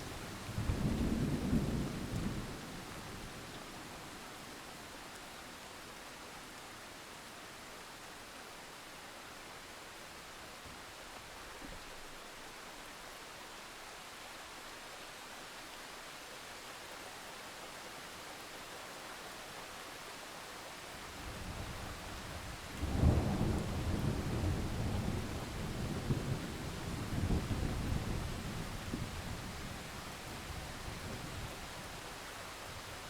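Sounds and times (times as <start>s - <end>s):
rain hiss: 0.0s - 33.0s.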